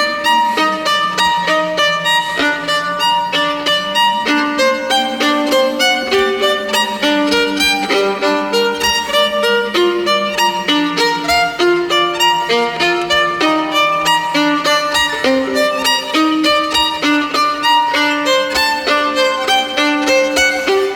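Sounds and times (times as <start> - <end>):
solo violin fast passage: 0.0 - 20.9.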